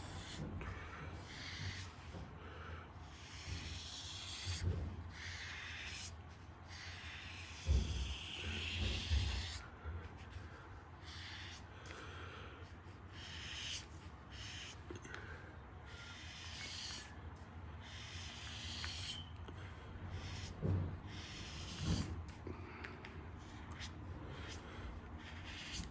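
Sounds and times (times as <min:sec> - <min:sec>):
marker scratching on paper: 0:00.0 - 0:02.2, 0:03.0 - 0:15.3, 0:15.9 - 0:22.4, 0:23.3 - 0:25.9.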